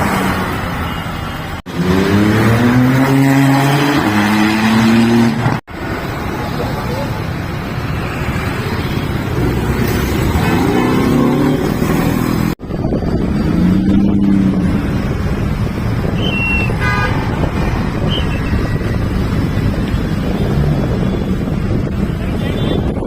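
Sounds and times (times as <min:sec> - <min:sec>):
vehicle engines running: 0:03.7 - 0:23.0.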